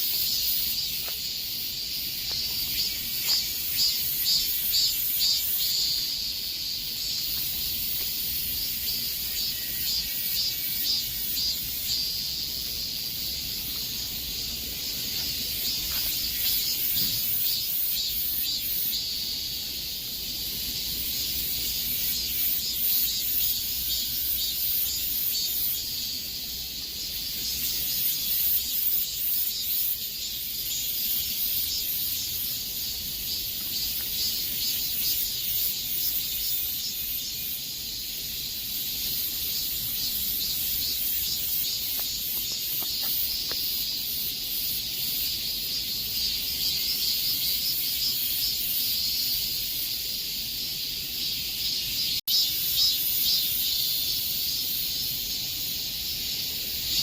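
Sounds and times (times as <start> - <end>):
cicadas buzzing in chorus: 0.0 - 57.0.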